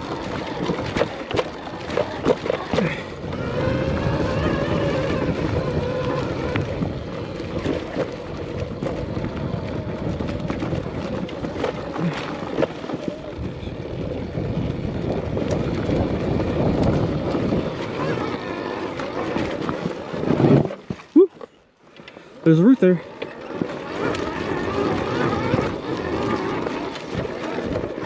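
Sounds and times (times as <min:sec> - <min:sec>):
electric motor whine: 0:00.0 - 0:20.8, 0:22.5 - 0:28.0
wind noise on microphone: 0:00.0 - 0:21.0, 0:23.6 - 0:28.0.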